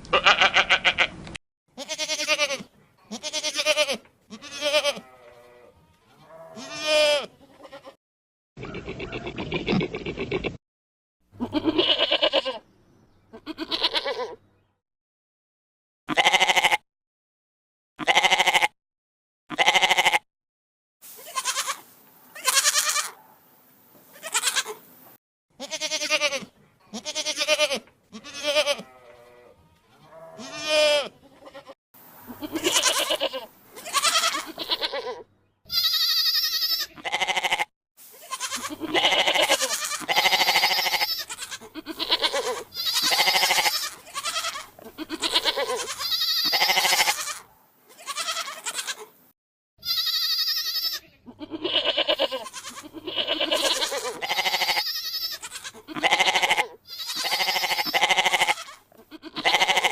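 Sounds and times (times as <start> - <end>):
goats bleating: 0.1 - 1.1, 1.8 - 8.0, 11.4 - 12.6, 13.3 - 14.4, 16.1 - 16.8, 18.0 - 18.8, 19.5 - 20.2, 21.2 - 23.2, 24.1 - 24.8, 25.6 - 49.1, 49.8 - 59.9.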